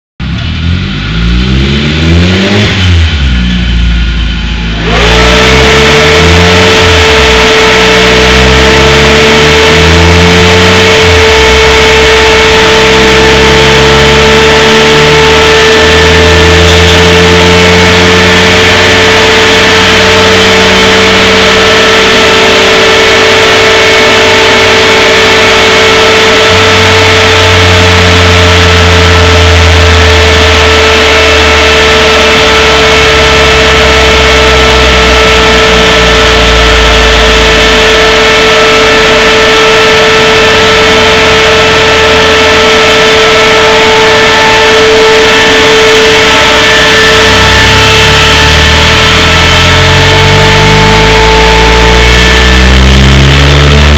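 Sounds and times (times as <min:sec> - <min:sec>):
car engine revving: 0:00.0 - 0:53.9
cooling fan rushing whine: 0:04.8 - 0:53.9.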